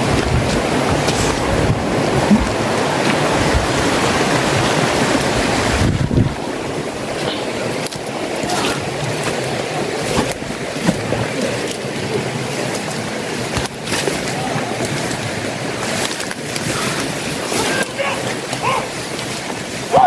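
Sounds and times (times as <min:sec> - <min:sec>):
leaves and branches rustling: 0:00.0 - 0:20.0.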